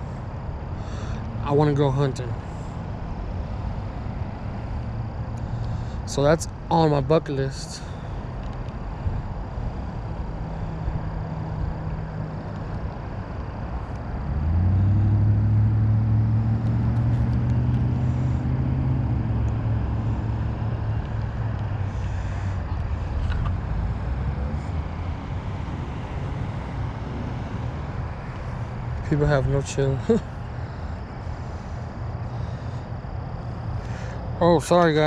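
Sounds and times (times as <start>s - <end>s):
motor vehicle engine hum: 0.0s - 35.0s
road traffic: 0.0s - 35.0s.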